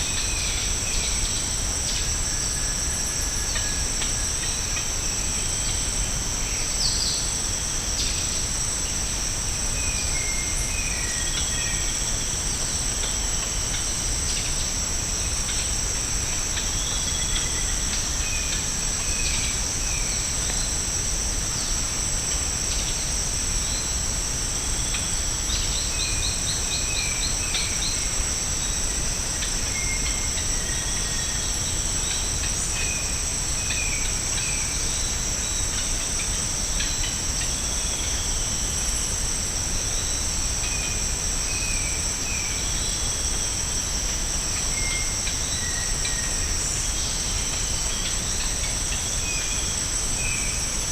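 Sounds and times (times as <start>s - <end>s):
tropical insects chorus: 0.0s - 50.9s.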